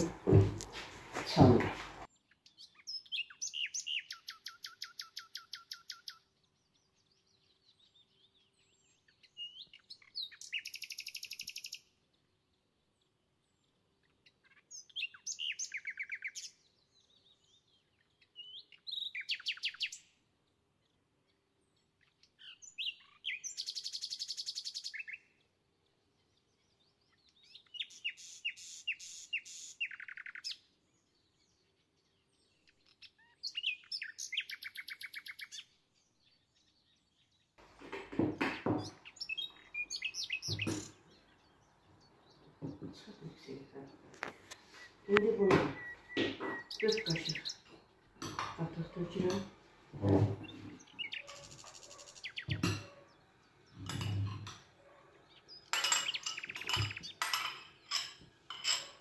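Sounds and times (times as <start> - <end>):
songbird trilling and chirping: 1.3 - 20.1, 21.6 - 25.5, 26.2 - 59.0.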